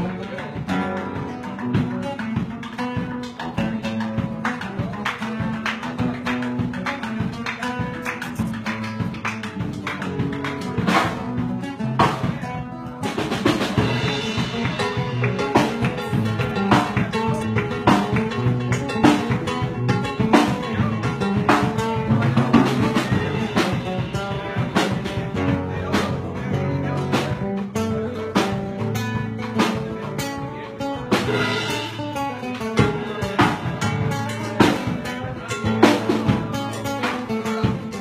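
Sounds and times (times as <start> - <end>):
drum kit playing: 0.0 - 38.0
guitar: 0.0 - 38.0.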